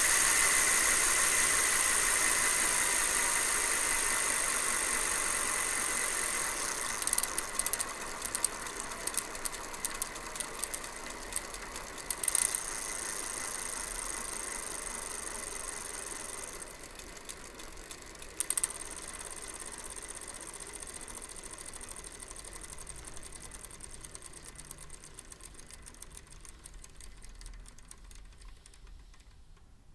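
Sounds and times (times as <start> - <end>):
bicycle hub ratchet whirring: 0.0 - 29.5
sharp clicks: 2.6 - 20.1, 22.4 - 29.8.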